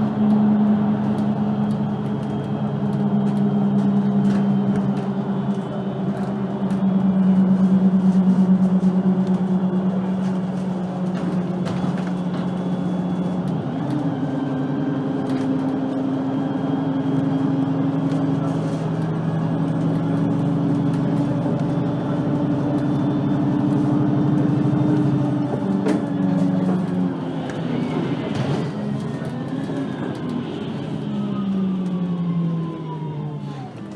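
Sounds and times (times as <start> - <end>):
bus engine running: 0.0 - 33.9.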